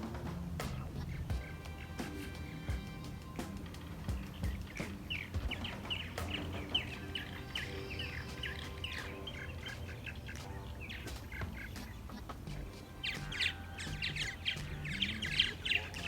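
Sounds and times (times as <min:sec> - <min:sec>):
birds chirping: 0:00.0 - 0:16.0
faint music: 0:00.0 - 0:16.0.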